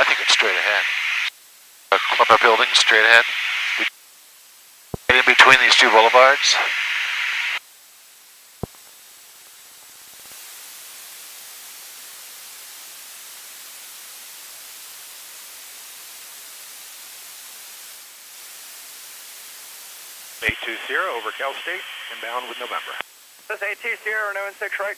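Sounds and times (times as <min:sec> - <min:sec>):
radio static hiss: 0:00.0 - 0:24.9.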